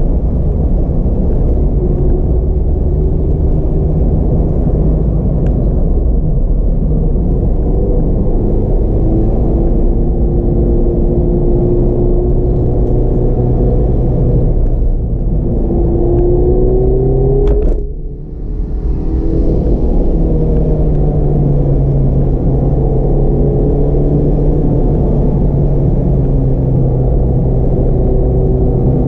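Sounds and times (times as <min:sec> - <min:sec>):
road rumble: 0:00.0 - 0:29.0.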